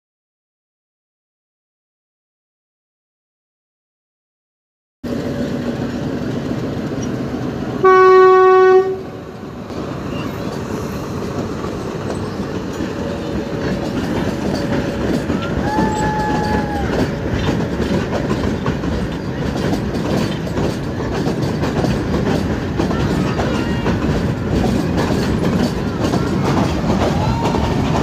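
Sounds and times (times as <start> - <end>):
train wheels rumbling: 5.1 - 28.0.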